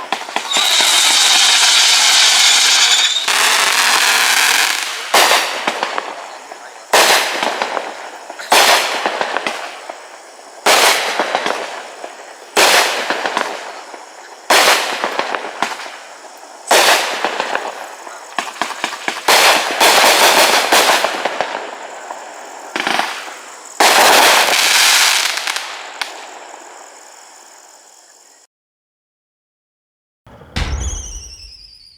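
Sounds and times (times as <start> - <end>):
fireworks shots with crackling: 0.0 - 27.3, 30.3 - 31.9.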